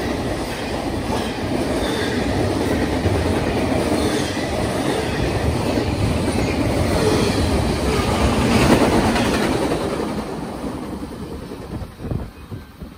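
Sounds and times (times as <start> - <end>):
train cars rolling rumble: 0.0 - 12.9.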